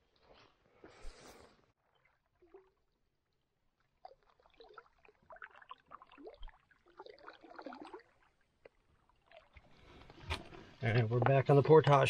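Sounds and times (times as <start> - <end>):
paddle gurgling and dripping water: 1.7 - 12.0.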